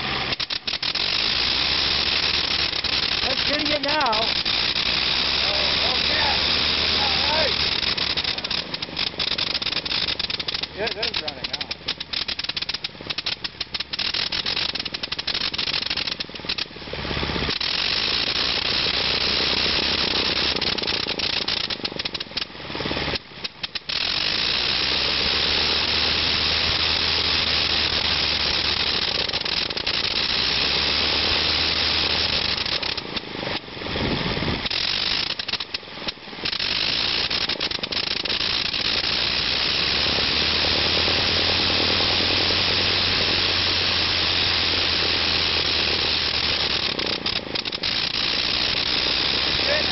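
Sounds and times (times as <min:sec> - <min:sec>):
rotary aero engine running: 0:00.0 - 0:49.9.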